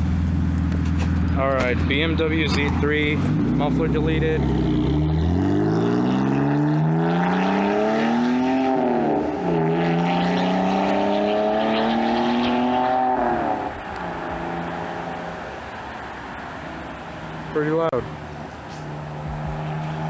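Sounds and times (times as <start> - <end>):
loud car engine accelerating: 0.0 - 17.5, 18.7 - 20.0.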